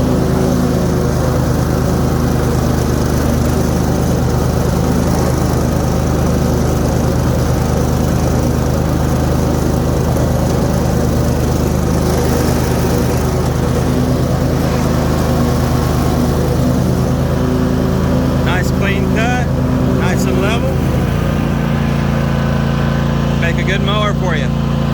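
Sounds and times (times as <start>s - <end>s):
lawn mower engine running: 0.0s - 24.9s
mower blades cutting grass: 0.0s - 24.9s.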